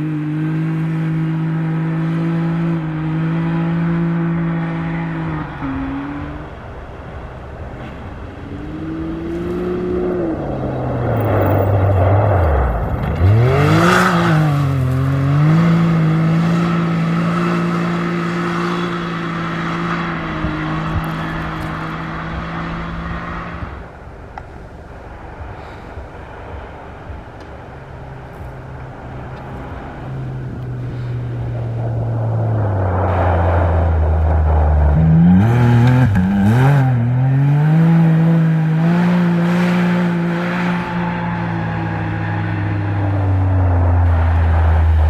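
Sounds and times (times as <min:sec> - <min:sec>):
vehicle engine passing at speed: 0:00.0 - 0:24.2, 0:24.9 - 0:45.0
lower-pitched engine approaching: 0:00.0 - 0:45.0.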